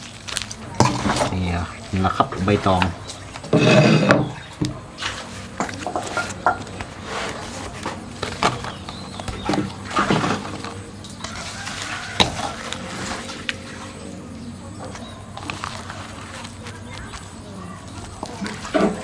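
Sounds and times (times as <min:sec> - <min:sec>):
banana leaves rustling: 0:00.0 - 0:19.0.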